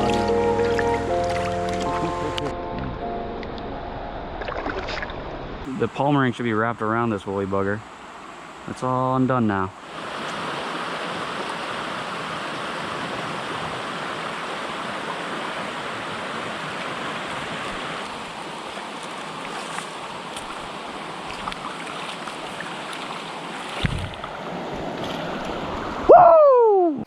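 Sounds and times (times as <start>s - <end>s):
creek water running over rocks: 0.0s - 2.5s, 4.4s - 26.1s.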